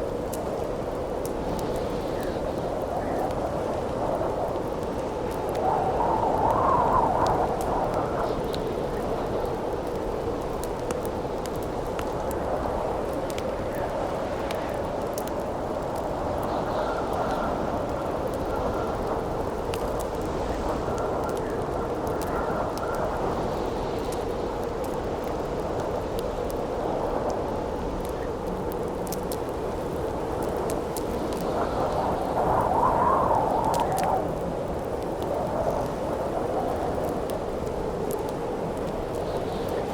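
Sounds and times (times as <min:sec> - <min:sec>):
campfire crackling and popping: 0:00.0 - 0:39.9
howling wind: 0:00.0 - 0:39.9.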